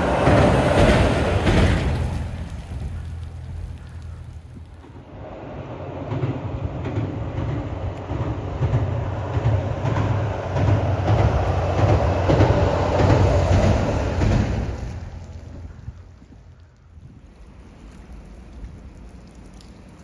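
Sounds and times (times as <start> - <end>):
railcar engine and wheels rumbling: 0.0 - 20.0.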